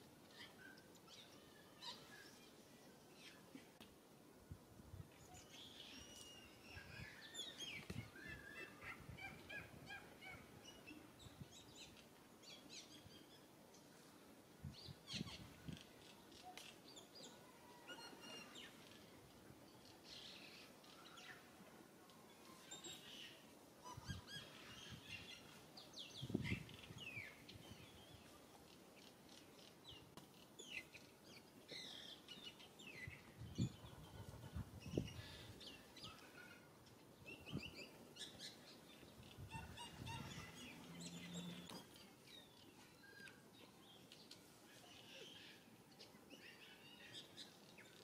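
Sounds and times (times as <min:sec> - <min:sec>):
faint birds chirping: 0:05.1 - 0:48.0.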